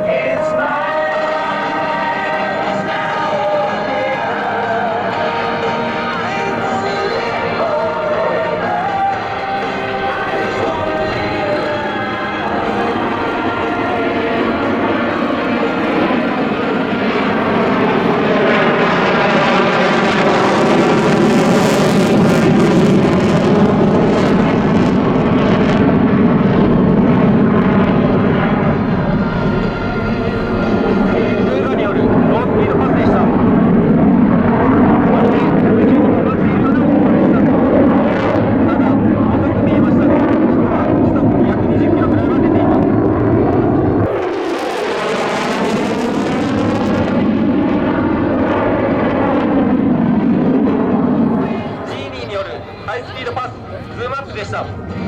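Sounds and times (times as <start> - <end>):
fighter jet roar: 0.0 - 55.0.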